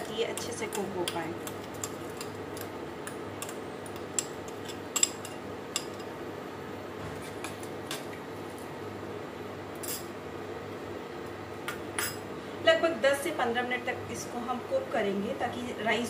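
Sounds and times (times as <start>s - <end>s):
induction cooktop hum: 0.0s - 16.0s.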